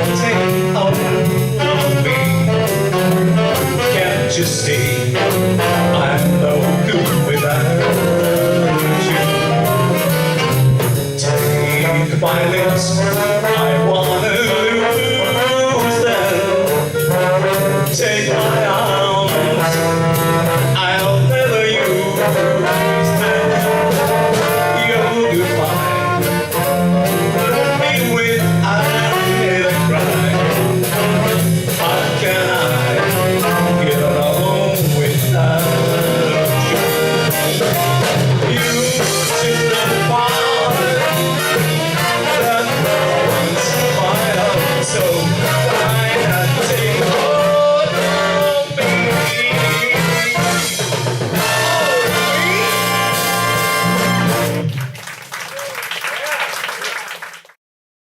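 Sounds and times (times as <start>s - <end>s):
trombone: 0.0s - 54.9s
jazz band playing: 0.0s - 55.8s
trumpet: 0.0s - 57.0s.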